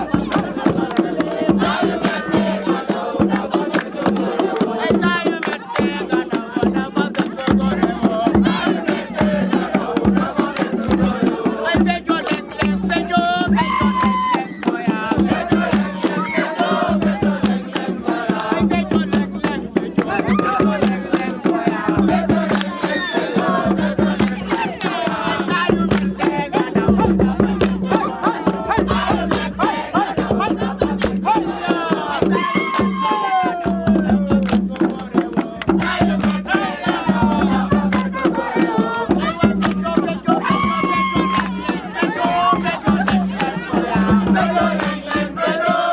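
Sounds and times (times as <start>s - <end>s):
crowd singing and shouting: 0.0s - 45.9s
fast dense drumming: 0.0s - 45.9s.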